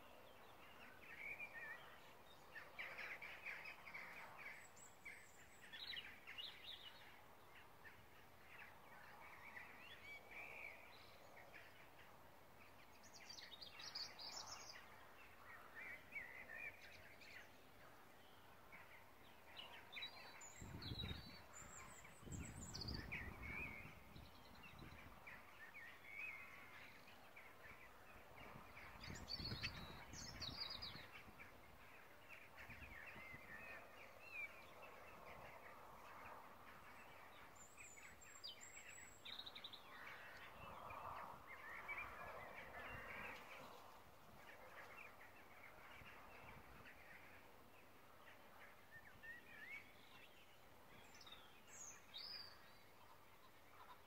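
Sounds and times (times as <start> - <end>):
bird calls and chirps: 0.0 - 54.0.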